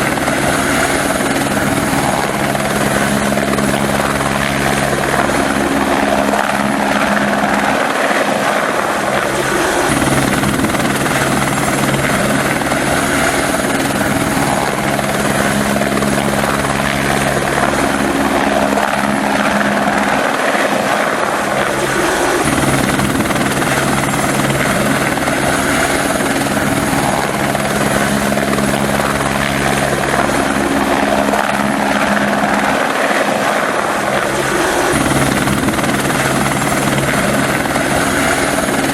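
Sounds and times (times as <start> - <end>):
helicopter flying: 0.0 - 38.9.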